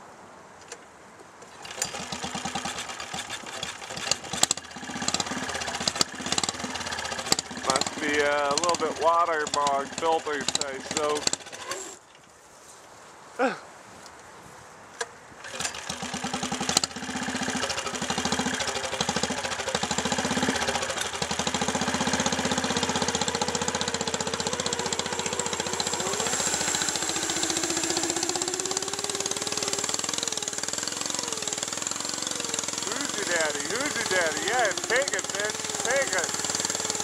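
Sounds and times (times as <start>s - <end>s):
lawn tractor engine running: 1.5s - 12.2s, 15.4s - 37.0s
lawn tractor engine cranking: 1.5s - 12.3s, 15.4s - 37.0s.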